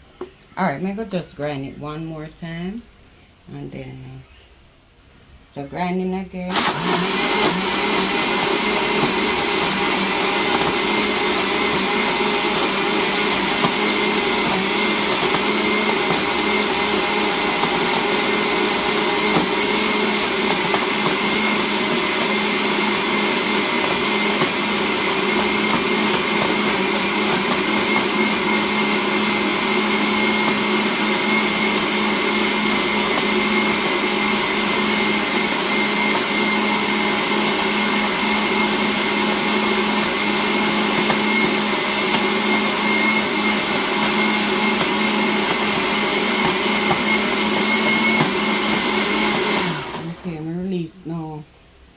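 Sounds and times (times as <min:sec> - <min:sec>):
electric blender grinding: 0:06.5 - 0:50.3.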